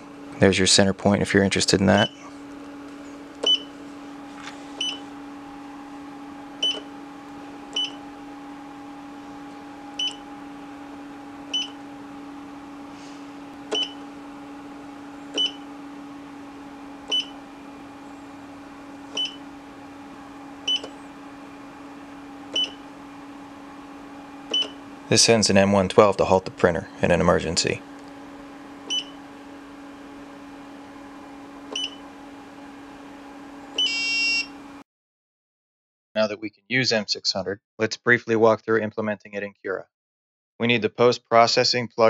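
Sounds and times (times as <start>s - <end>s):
steady machine hum: 0.0s - 34.8s.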